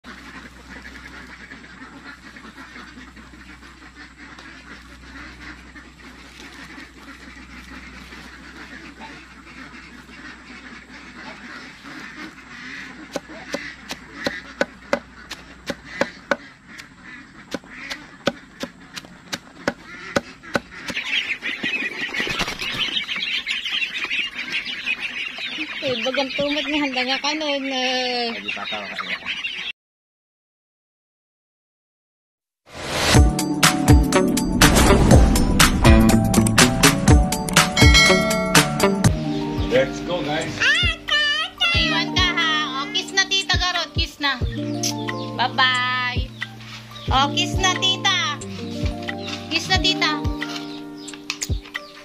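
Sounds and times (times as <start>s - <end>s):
ducklings peeping: 0.0s - 29.7s, 33.4s - 52.0s
ducks calling: 0.0s - 29.7s, 33.0s - 52.0s.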